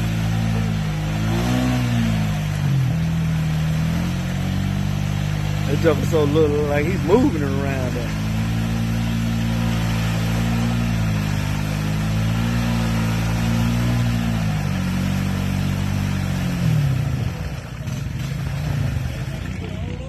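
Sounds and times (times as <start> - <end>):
quad engine revving: 0.0 - 20.0.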